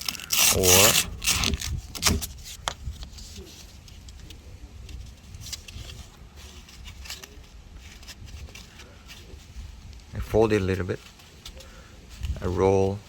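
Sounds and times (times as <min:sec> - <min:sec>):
faint handling noise: 0:00.0 - 0:13.0.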